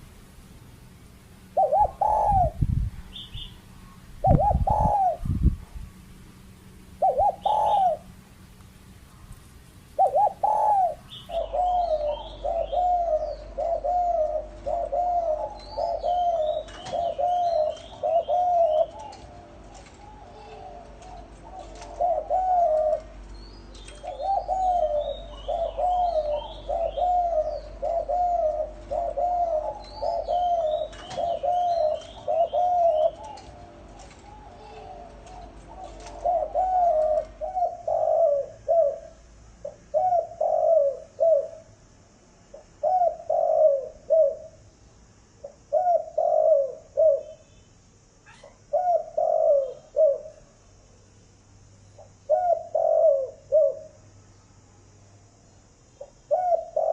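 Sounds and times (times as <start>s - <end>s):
small birds chirping faintly: 0.0s - 56.9s
dove cooing: 1.4s - 6.1s, 6.9s - 8.4s, 10.0s - 41.7s, 42.5s - 44.6s, 45.4s - 47.4s, 48.3s - 50.5s, 52.0s - 54.0s, 56.0s - 56.9s.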